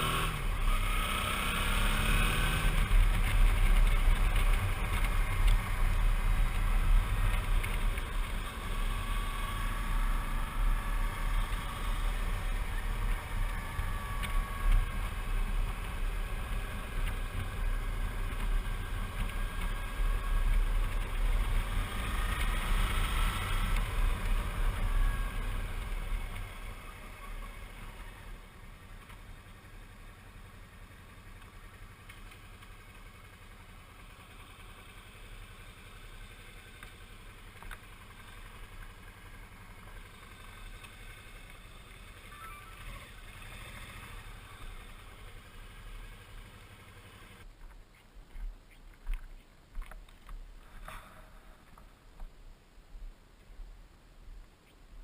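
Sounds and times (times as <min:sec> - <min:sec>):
motorcycle engine running: 0:00.0 - 0:47.5.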